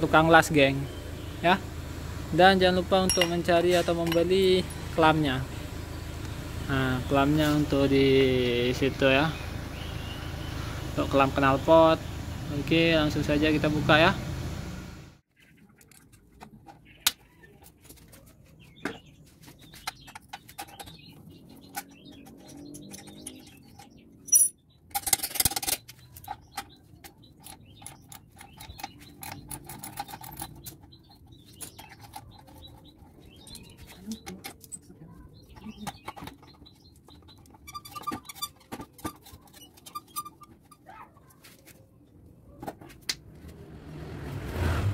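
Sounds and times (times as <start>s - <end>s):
birds chirping: 0.0s - 14.1s, 15.3s - 43.5s.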